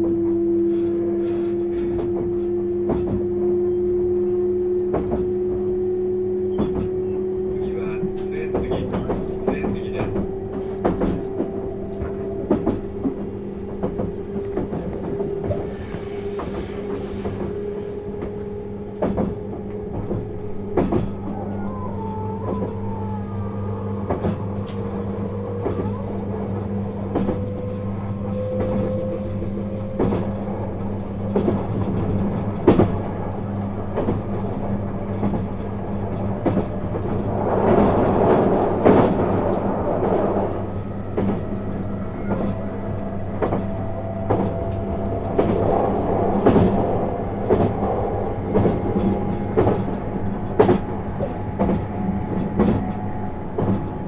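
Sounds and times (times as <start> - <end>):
electric train whine: 0.0 - 54.0.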